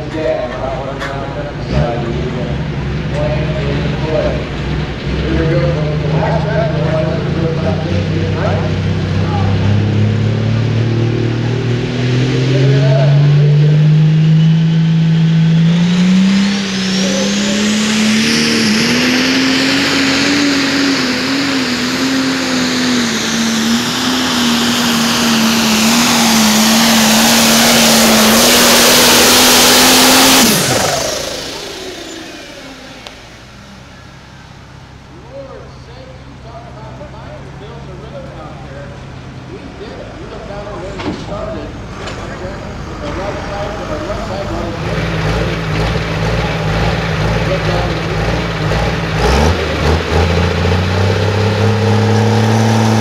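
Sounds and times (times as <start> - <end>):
diesel engine revving under load: 0.0 - 53.0.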